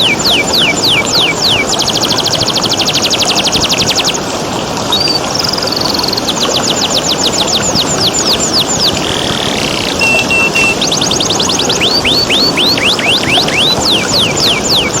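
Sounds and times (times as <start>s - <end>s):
canary singing trills and whistles: 0.0s - 4.2s, 4.9s - 15.0s
flowing water: 0.0s - 15.0s.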